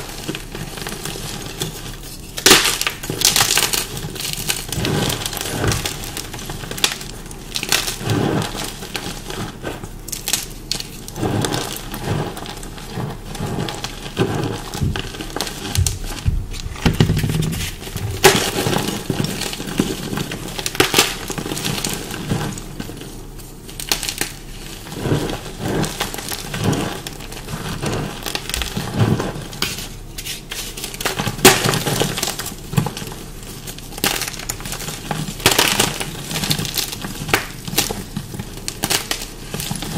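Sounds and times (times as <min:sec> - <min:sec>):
chalk cracking: 0:00.0 - 0:39.9
chalk crunching and crumbling: 0:00.0 - 0:39.9.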